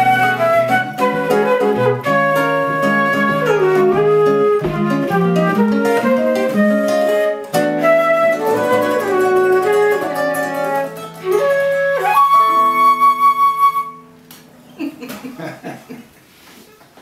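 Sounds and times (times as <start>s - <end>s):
flute melody: 0.0s - 14.2s
plucked classical guitar chords: 0.0s - 14.3s.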